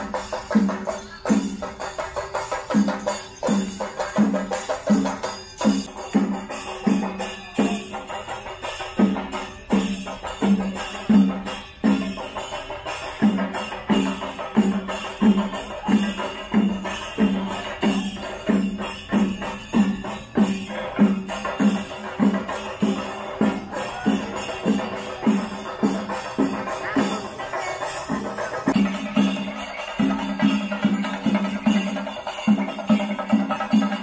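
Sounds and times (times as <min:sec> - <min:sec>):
higher percussion: 0:00.0 - 0:34.0.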